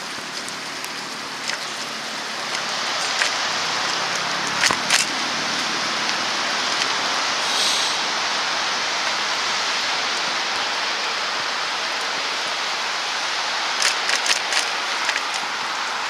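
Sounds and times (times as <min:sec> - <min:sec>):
wet snow and sleet falling: 0:00.0 - 0:16.0.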